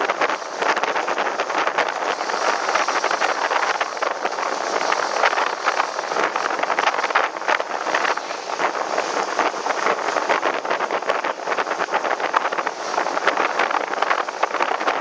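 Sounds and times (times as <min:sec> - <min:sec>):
motorboat water rush: 0:00.0 - 0:15.0
wind buffeting microphone: 0:00.0 - 0:15.0.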